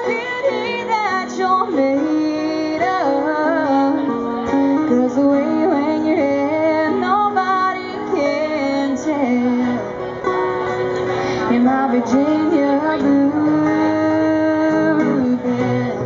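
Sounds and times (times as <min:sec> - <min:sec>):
woman singing: 0:00.0 - 0:10.2, 0:11.3 - 0:16.0
acoustic guitars playing: 0:00.0 - 0:16.0.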